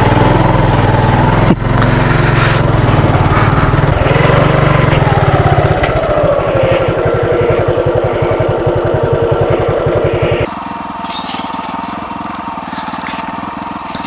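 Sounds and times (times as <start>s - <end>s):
motorcycle engine pulling away: 0.0s - 14.0s.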